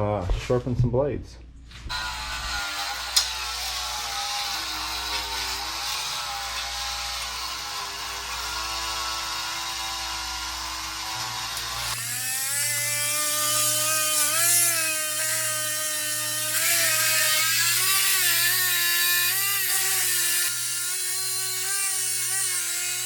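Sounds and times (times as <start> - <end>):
power tool motor: 1.9 - 23.0.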